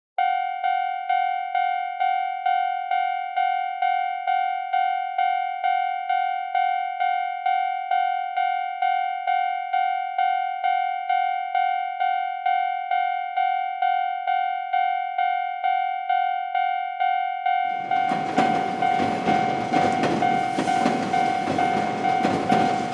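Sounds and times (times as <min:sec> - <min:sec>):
railroad crossing bell ringing: 0:00.2 - 0:22.9.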